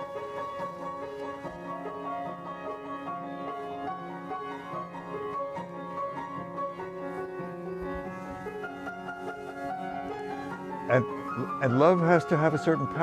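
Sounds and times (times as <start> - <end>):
upright piano melody: 0.0 - 13.0.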